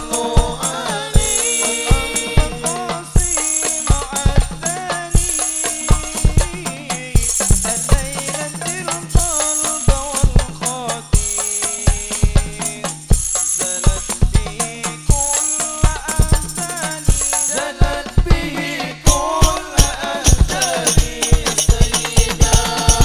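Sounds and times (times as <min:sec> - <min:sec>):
frame drums beating: 0:00.0 - 0:23.0
tambourine jingles: 0:00.0 - 0:23.0.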